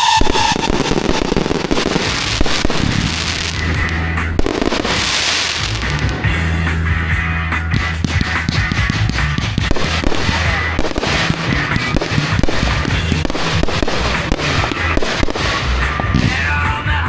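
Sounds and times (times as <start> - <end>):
fireworks bangs and crackling: 0.0 - 17.0
music playing: 0.0 - 17.0.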